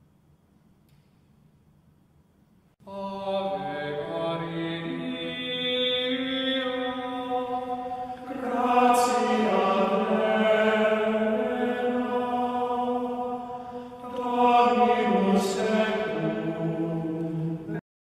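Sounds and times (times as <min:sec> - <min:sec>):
chanting voices: 0:02.9 - 0:17.8.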